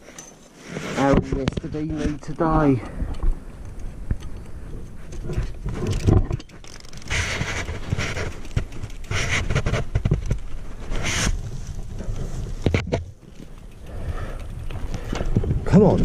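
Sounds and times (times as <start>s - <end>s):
bike tyres on dirt: 0.0s - 16.0s
bike chain and frame rattling: 1.8s - 16.0s.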